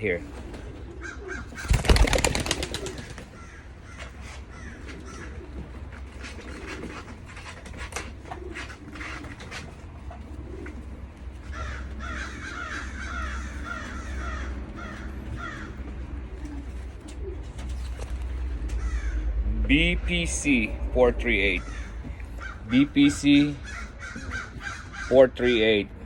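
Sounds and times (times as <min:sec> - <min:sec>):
pigeons cooing: 0:00.0 - 0:26.0
steady low hum: 0:00.0 - 0:26.0.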